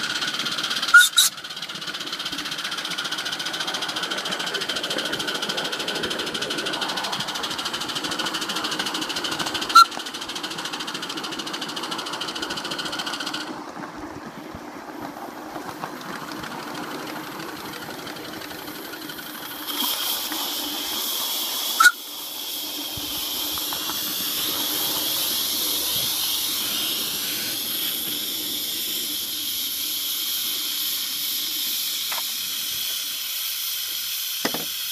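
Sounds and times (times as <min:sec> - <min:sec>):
steam locomotive hissing: 0:00.0 - 0:34.9.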